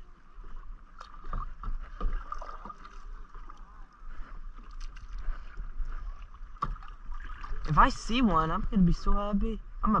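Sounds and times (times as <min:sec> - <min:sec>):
paddle splashing in water: 0:00.0 - 0:08.1.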